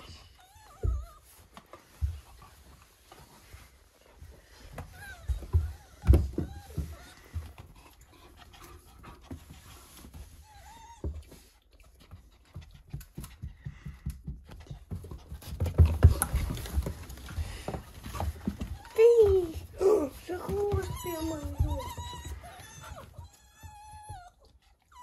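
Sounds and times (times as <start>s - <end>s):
animals panting and scuffling: 0.0s - 25.0s.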